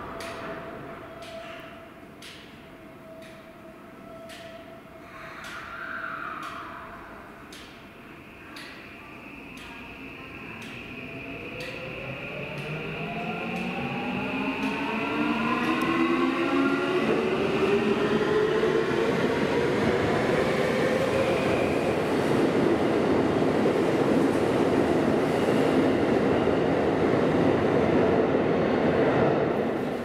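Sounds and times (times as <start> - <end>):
train wheel and rail noise: 0.0 - 30.0.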